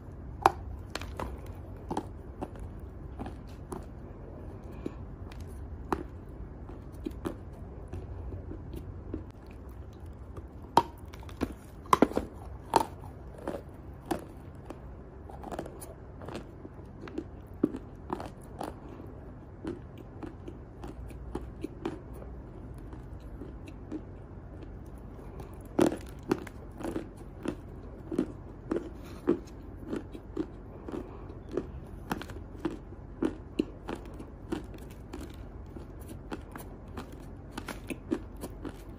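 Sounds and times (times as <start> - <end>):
chewing chalk crunching: 0.0 - 38.9.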